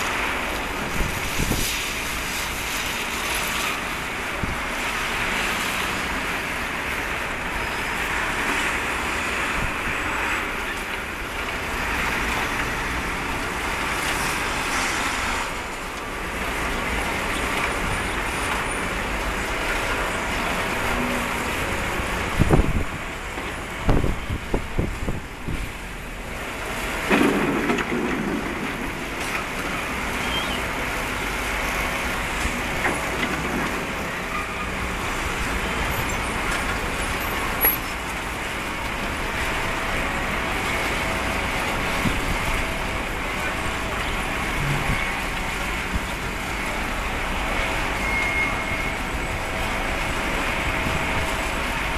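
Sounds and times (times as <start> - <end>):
road roller engine running: 0.0 - 51.9.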